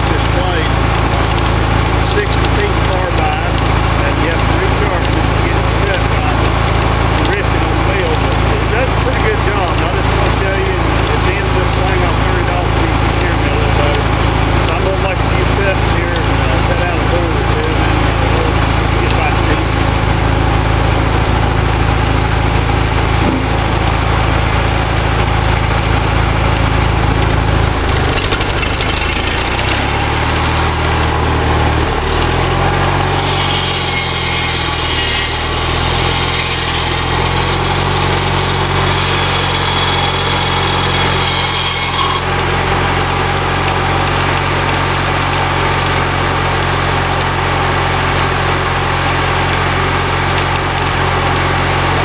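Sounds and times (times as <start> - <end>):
lawnmower engine running sawmill: 0.0 - 52.0.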